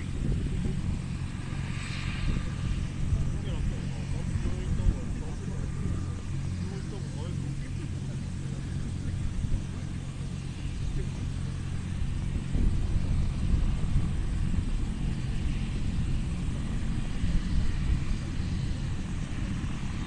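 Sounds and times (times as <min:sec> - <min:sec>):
helicopter engine and rotor hum: 0:00.0 - 0:20.0
rough low rumble: 0:00.0 - 0:20.0.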